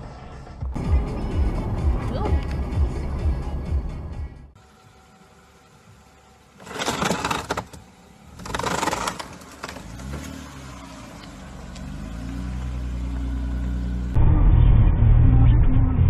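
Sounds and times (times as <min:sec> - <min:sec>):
car engine running: 0:00.0 - 0:14.4.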